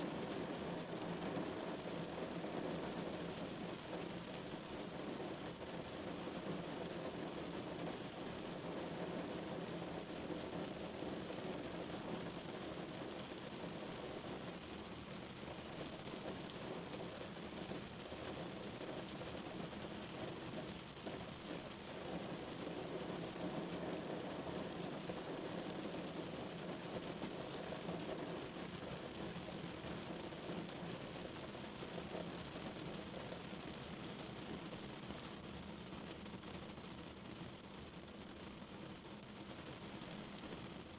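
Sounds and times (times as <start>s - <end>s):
rain falling on a car: 0.0s - 40.9s.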